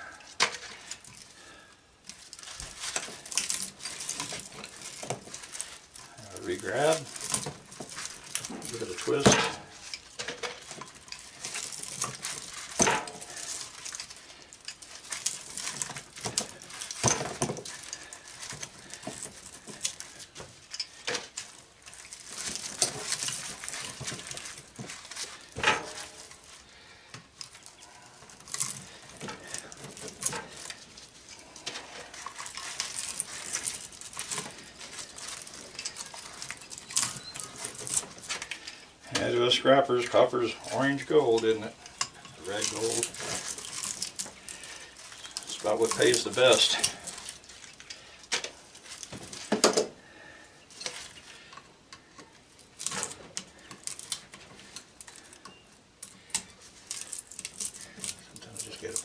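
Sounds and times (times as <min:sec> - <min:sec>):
metallic clinks and scraping: 0:00.0 - 0:59.0
pliers pulling copper wire: 0:02.0 - 0:50.0, 0:50.6 - 0:59.0.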